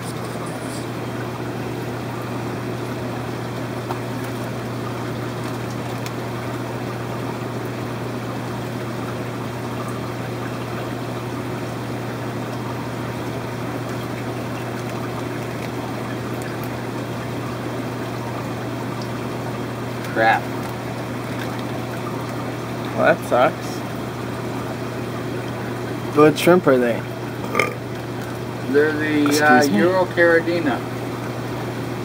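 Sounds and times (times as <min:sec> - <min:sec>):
aquarium pumps humming: 0:00.0 - 0:32.0
water trickling and splashing: 0:00.0 - 0:32.0.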